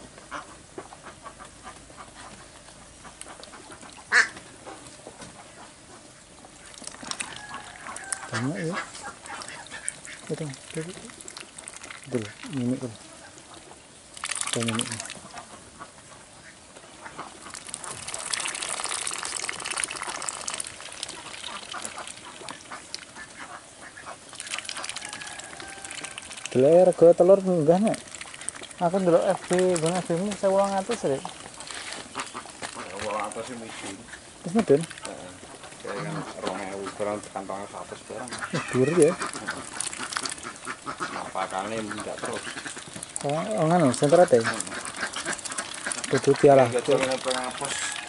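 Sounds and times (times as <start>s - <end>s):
ducks quacking: 0.2s - 48.0s.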